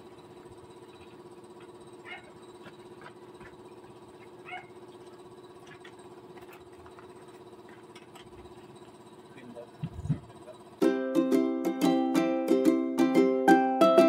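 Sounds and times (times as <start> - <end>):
faint machine hum: 0.0 - 14.0.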